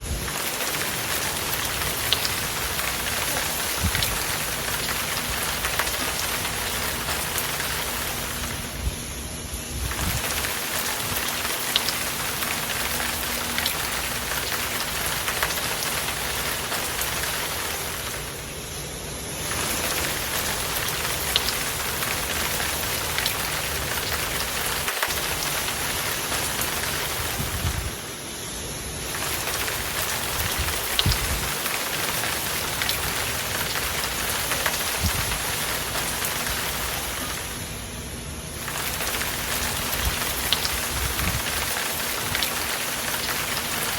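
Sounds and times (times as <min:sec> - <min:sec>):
rain drop impacts: 0:00.0 - 0:09.2, 0:09.8 - 0:43.9
heavy rain: 0:00.0 - 0:43.9.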